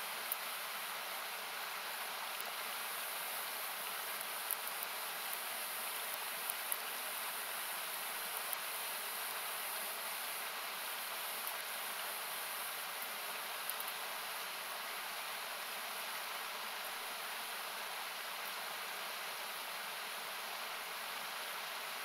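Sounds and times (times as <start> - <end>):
campfire crackles: 0.1 - 18.6.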